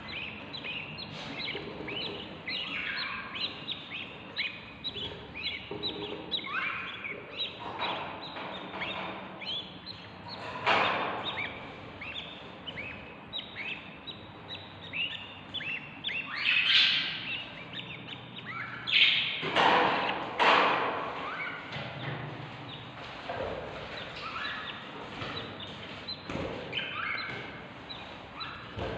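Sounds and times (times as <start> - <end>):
chicks chirping: 0.0 - 28.9
harsh bird calls: 0.0 - 28.9.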